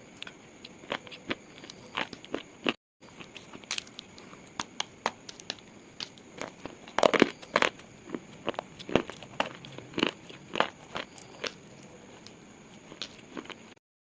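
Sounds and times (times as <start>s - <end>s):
slate pieces crunching and cracking: 2.0s - 13.7s.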